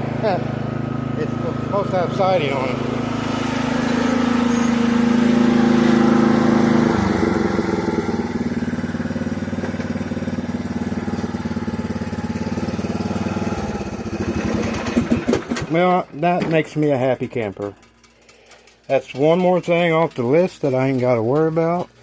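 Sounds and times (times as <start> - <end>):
lawn mower engine: 0.0 - 22.0.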